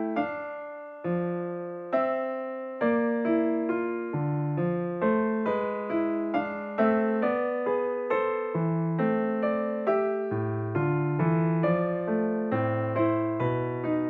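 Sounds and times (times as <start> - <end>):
electric piano chords: 0.0 - 14.0.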